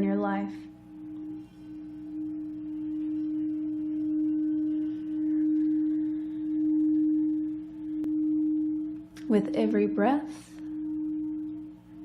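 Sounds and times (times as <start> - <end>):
steady drone tone: 0.0 - 12.0.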